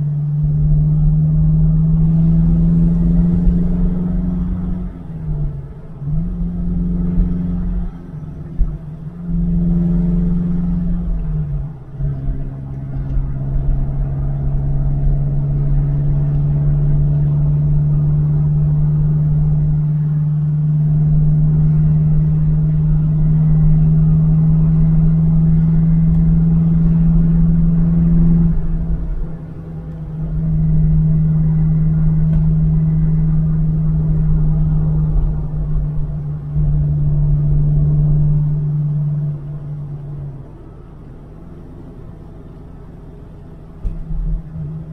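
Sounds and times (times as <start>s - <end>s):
car engine cruising heard inside: 0.0s - 44.9s.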